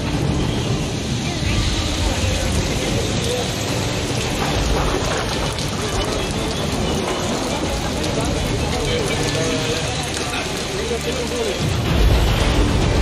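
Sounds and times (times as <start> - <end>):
rain on a street: 0.0 - 13.0.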